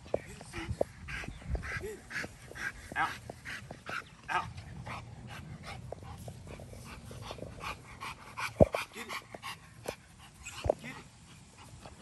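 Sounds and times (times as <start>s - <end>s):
dog panting hard: 0.5s - 12.0s.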